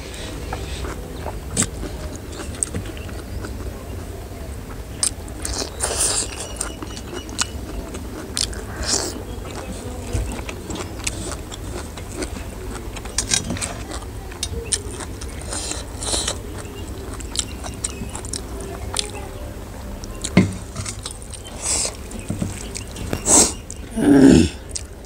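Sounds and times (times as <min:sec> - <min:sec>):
chewing: 0:00.0 - 0:19.3, 0:20.0 - 0:25.0.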